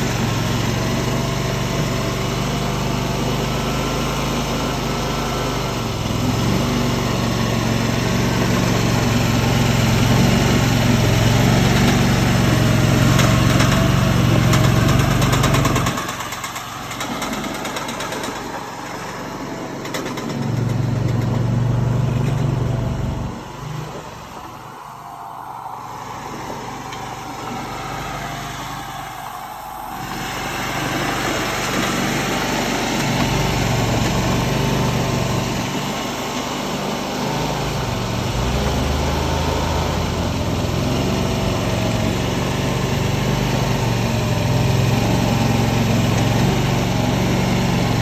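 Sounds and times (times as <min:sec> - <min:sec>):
skid steer engine running: 0:00.0 - 0:48.0.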